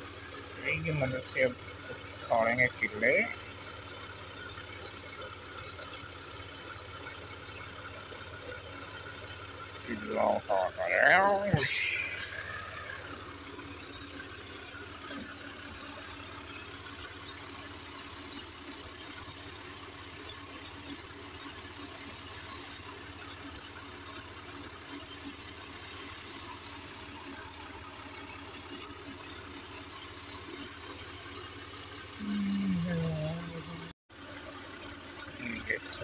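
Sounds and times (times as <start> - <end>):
small clicks and rattles: 0.0 - 36.0
tractor engine running: 0.0 - 36.0.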